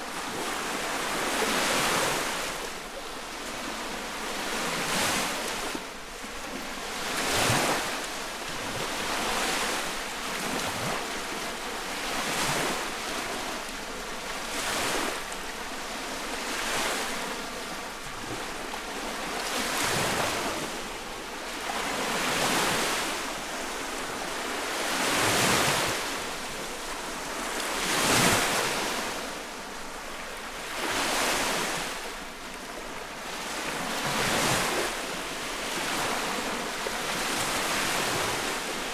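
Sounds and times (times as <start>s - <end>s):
waves lapping on shore: 0.0s - 38.9s.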